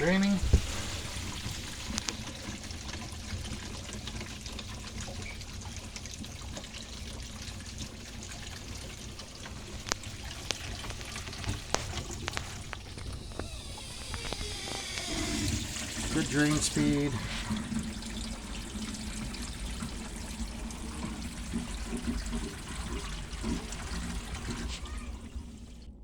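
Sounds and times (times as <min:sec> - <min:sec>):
water rushing down sink drain: 0:00.0 - 0:26.0.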